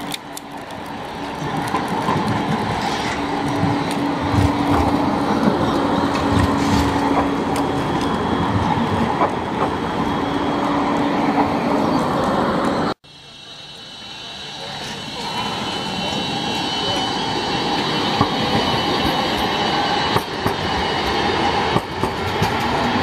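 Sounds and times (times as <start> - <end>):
wheels rumbling on rails: 0.0 - 13.0, 13.8 - 23.0
tram motor hum: 0.0 - 23.0.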